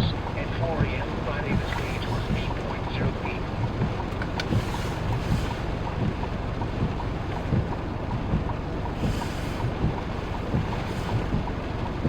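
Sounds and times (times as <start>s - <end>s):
faint even ticking: 0.0s - 11.6s
wind buffeting microphone: 0.0s - 12.0s.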